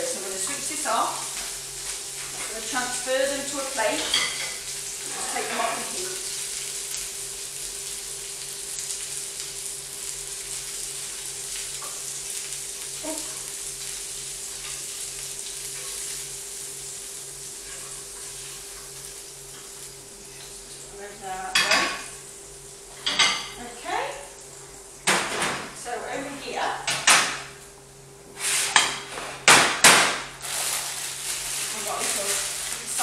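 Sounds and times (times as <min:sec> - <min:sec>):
burgers sizzling in oil: 0:00.0 - 0:27.6, 0:28.3 - 0:33.0.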